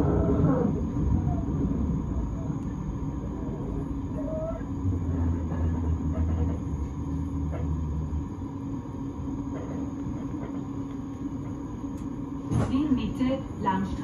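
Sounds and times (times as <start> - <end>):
train humming at platform: 0.0 - 14.0.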